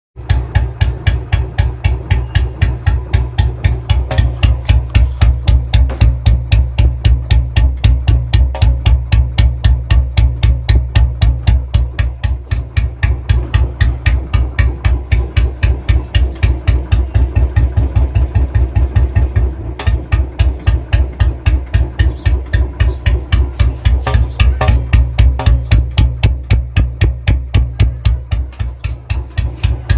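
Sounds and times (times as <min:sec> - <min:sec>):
motorcycle engine thumping: 0:00.2 - 0:29.9.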